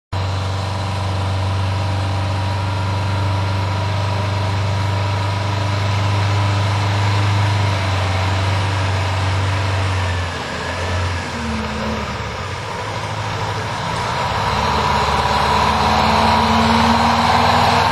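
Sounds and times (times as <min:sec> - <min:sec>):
large diesel engine humming: 0:00.1 - 0:17.9.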